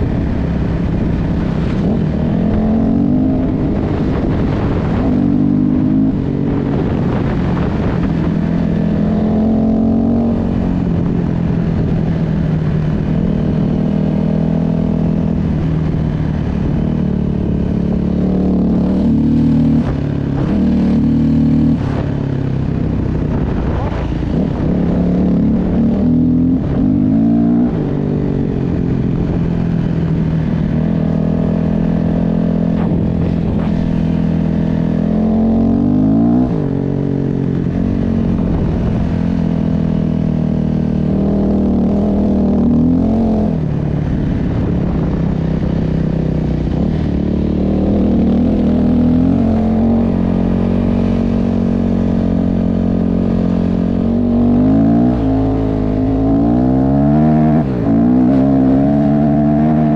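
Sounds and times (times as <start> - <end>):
engine revving: 0.0 - 59.9.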